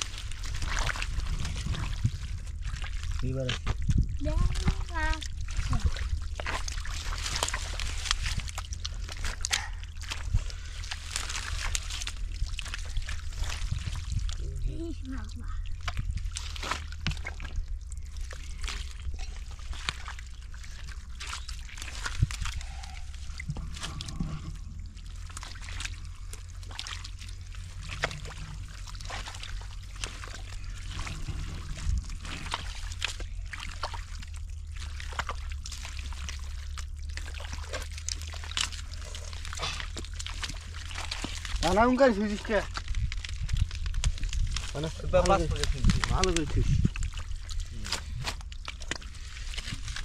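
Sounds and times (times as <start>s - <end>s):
shallow water splashing: 0.0s - 50.0s
steady low rumble: 0.0s - 50.0s
water trickling and pouring: 0.0s - 50.0s.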